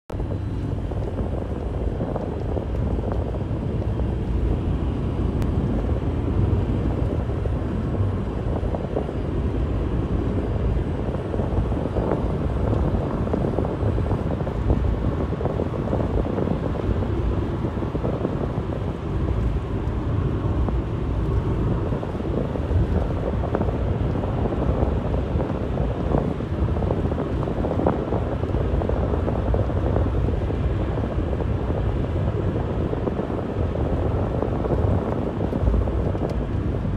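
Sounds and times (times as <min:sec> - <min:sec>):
road and wind noise in car: 0:00.1 - 0:36.9.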